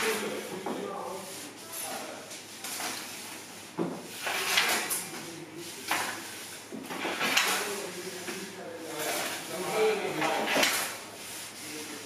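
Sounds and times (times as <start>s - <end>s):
sliding and scraping: 0.0s - 12.0s.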